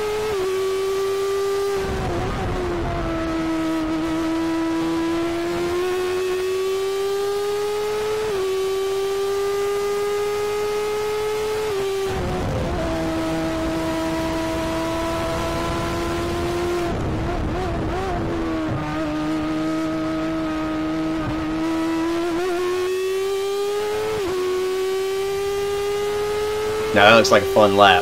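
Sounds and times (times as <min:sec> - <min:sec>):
race car engine at high revs: 0:00.0 - 0:28.0.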